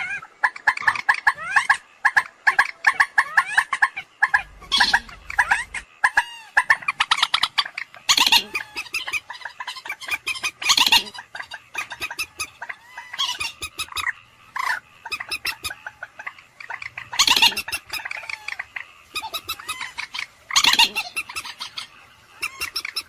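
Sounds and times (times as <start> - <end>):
moorhen harsh calls: 0.0 - 23.0.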